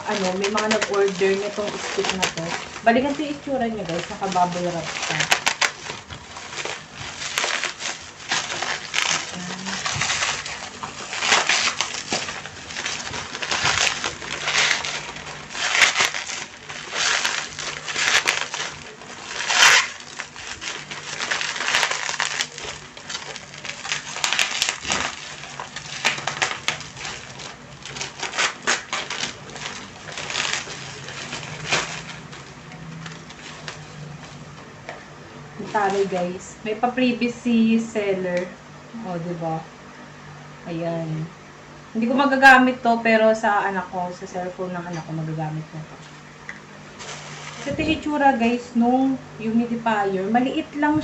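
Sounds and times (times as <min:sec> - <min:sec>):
bubble wrap crinkling: 0:00.0 - 0:39.6, 0:42.0 - 0:51.0.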